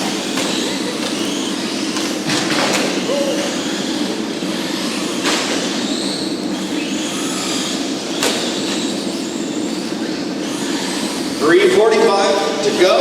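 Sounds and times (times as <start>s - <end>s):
remote-control trucks racing: 0.0s - 13.0s.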